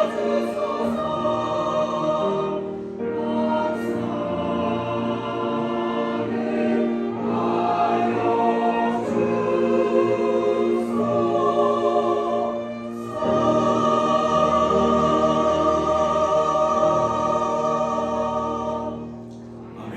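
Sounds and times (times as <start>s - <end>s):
cello: 0.0s - 19.9s
choir singing: 0.0s - 19.9s
piano: 0.0s - 19.9s
violin: 0.0s - 19.9s.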